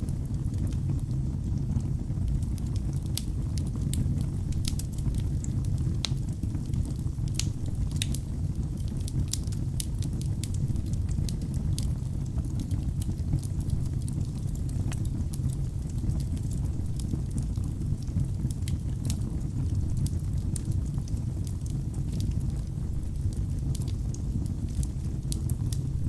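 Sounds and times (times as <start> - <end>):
burning wood crackling and popping: 0.0 - 26.0
fire flames rumbling: 0.0 - 26.0.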